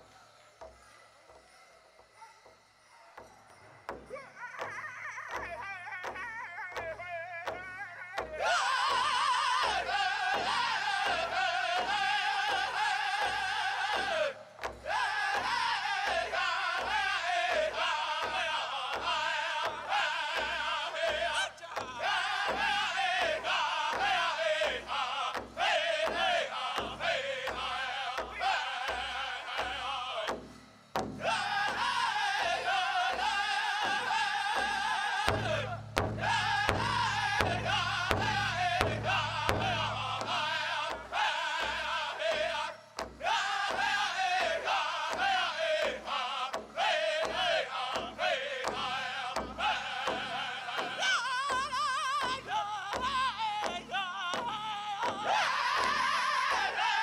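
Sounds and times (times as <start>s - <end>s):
high-pitched group singing: 0.9s - 30.4s, 31.2s - 57.0s
large drum beating: 3.2s - 57.0s.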